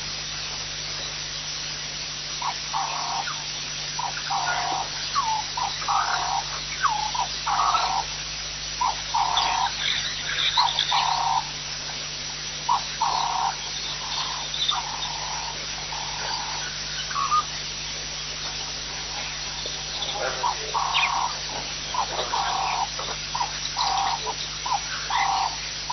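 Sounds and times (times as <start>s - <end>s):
animal calling: 2.4s - 8.2s, 8.8s - 11.6s, 12.6s - 25.9s.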